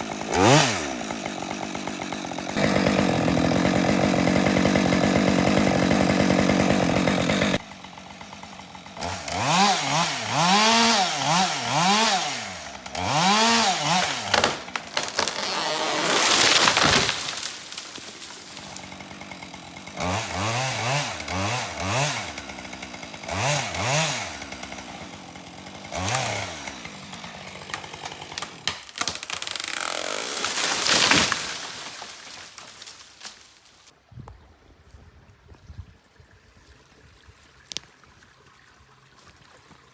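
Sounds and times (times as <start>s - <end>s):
chainsaw revving: 0.0s - 33.4s
chainsaw cutting through wood: 0.0s - 33.9s.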